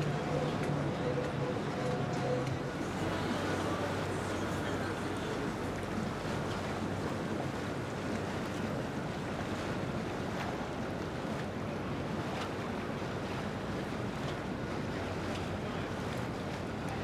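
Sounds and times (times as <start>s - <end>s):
boat wake washing: 0.0s - 17.0s
faint low boat motor hum: 0.0s - 17.0s.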